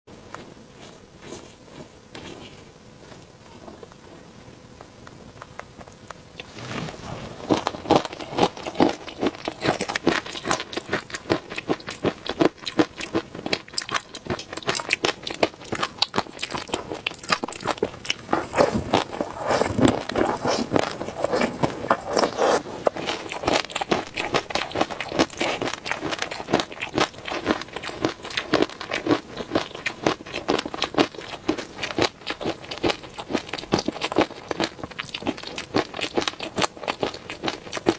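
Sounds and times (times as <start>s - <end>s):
person chewing with mouth clicks: 7.4s - 37.9s.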